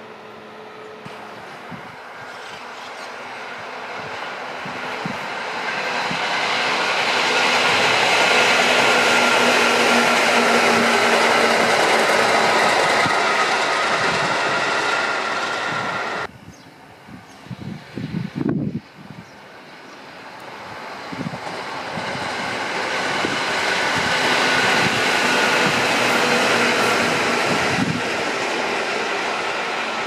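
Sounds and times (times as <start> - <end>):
train wheels on track: 0.0 - 16.3, 17.4 - 30.0.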